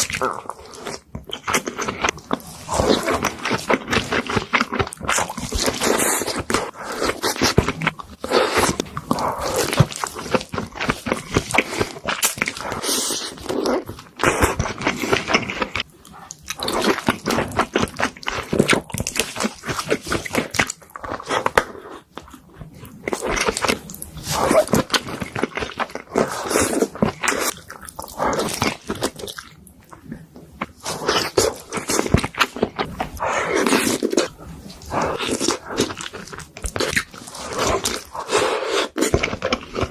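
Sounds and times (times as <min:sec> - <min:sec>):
person biting and chewing food: 0:00.0 - 0:39.9.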